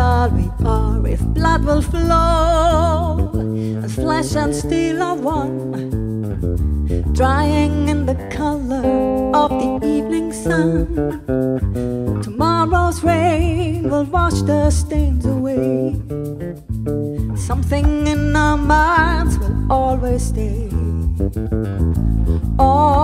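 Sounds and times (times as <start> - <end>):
woman singing with vibrato: 0.0 - 6.0, 7.0 - 11.4, 12.1 - 16.1, 17.3 - 21.0, 22.5 - 23.0.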